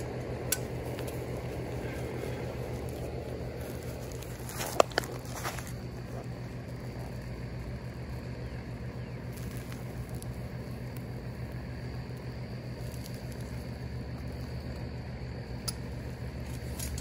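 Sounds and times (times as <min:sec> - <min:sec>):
furnace burner drone: 0:00.0 - 0:17.0.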